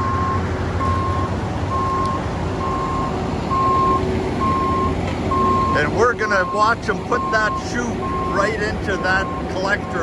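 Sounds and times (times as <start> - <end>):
back-up alarm beeping: 0.0 - 10.0
diesel engine rumble: 0.0 - 10.0.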